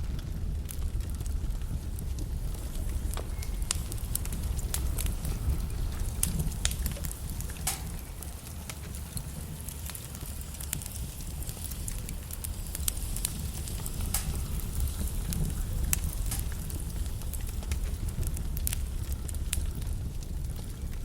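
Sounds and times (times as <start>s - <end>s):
wood logs burning and crackling: 0.0s - 21.0s.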